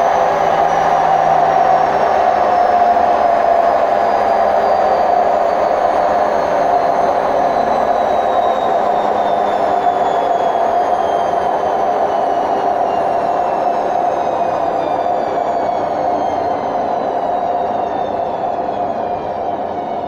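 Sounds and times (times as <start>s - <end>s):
faint high whine: 0.0s - 20.0s
washing machine spin rumble: 0.0s - 20.0s.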